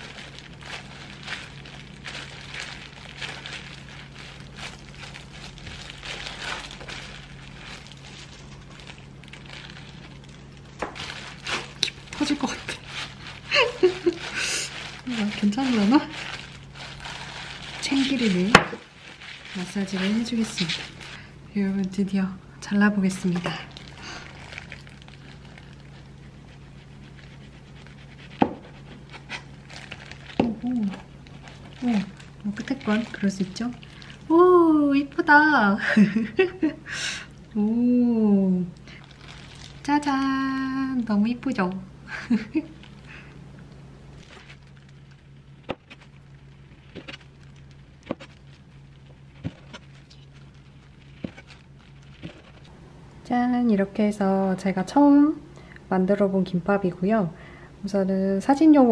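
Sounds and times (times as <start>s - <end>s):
low steady hum: 0.0s - 58.9s.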